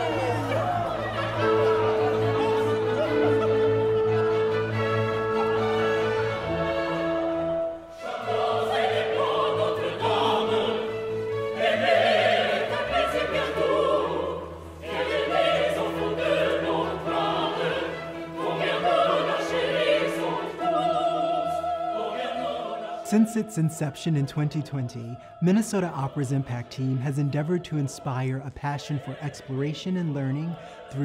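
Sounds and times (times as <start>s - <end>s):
operatic singing: 0.0s - 31.0s
orchestra playing: 0.0s - 31.0s.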